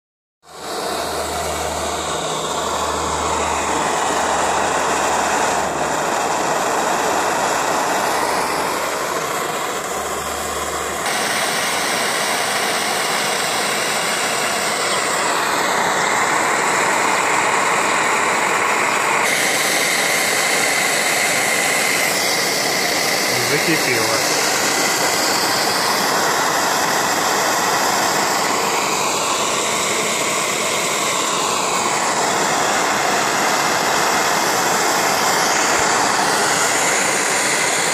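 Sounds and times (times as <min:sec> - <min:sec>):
camping stove burner hissing: 0:00.4 - 0:37.9.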